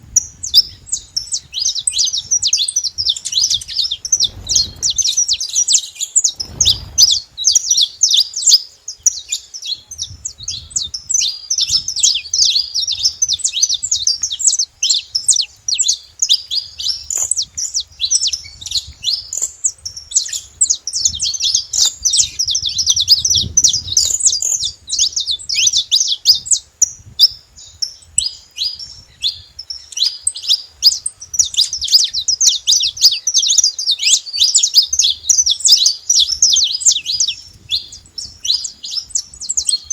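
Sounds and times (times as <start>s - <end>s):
finches chirping and trilling: 0.1s - 39.9s.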